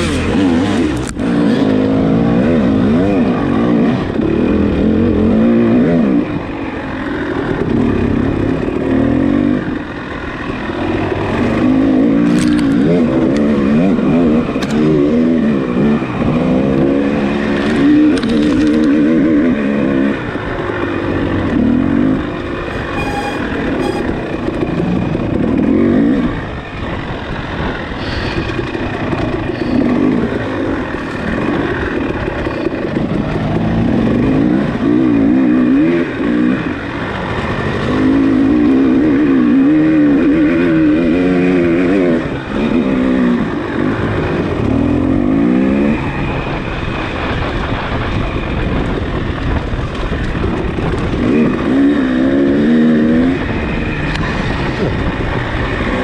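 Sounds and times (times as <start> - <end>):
dirt bike engine revving: 0.0 - 26.5, 27.2 - 48.1, 50.4 - 56.0.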